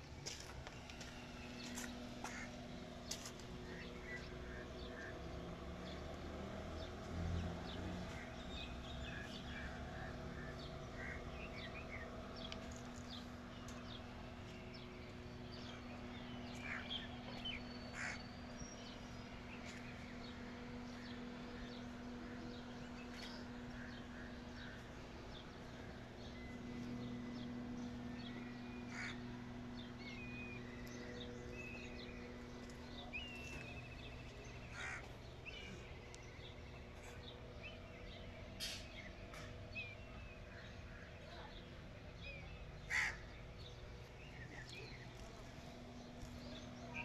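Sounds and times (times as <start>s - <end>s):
birds chirping: 0.0s - 47.0s
steady low hum: 0.0s - 47.0s.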